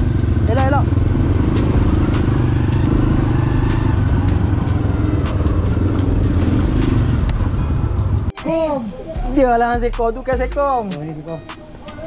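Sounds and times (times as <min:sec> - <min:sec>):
motorcycle engine rumbling: 0:00.0 - 0:09.9.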